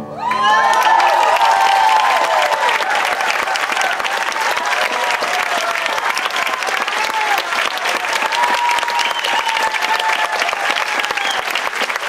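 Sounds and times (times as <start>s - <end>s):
audience applauding: 0.2s - 12.0s.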